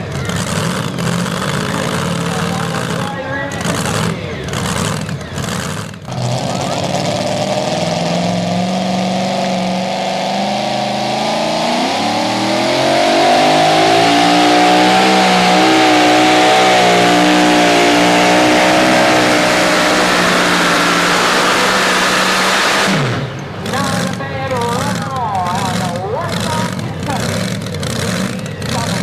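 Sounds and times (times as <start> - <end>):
truck engine running under load: 0.0 - 29.0.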